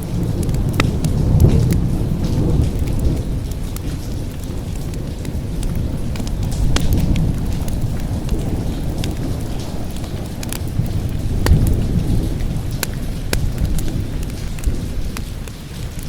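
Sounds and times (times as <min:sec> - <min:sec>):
crackling wood fire pops: 0:00.0 - 0:16.0
rolling thunder rumble: 0:00.0 - 0:16.0
steady rain: 0:00.0 - 0:16.0.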